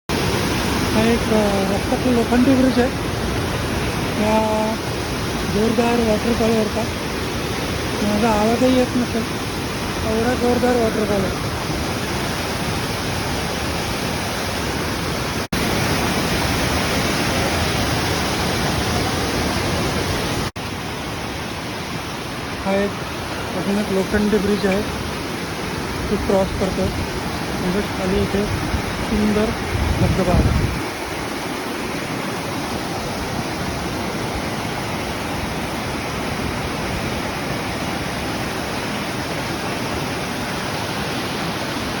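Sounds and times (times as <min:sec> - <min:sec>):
waterfall rushing: 0:00.1 - 0:42.0.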